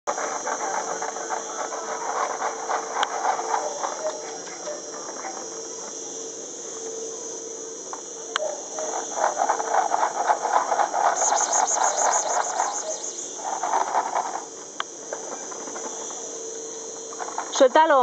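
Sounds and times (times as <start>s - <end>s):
rapid rasping insect bursts: 0.1s - 6.7s, 8.2s - 18.0s
insects chirring: 0.1s - 18.0s.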